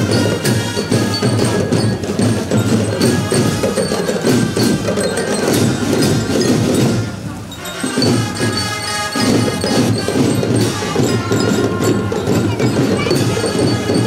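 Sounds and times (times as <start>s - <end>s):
brass playing: 0.0s - 14.0s
high ringing bell notes: 0.0s - 14.0s
marching drums: 0.0s - 14.0s.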